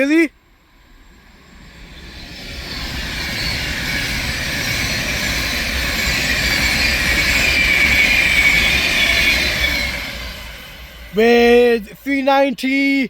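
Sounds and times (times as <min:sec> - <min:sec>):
electric train passing: 0:00.0 - 0:13.0
wheels ringing on rails: 0:00.4 - 0:12.6.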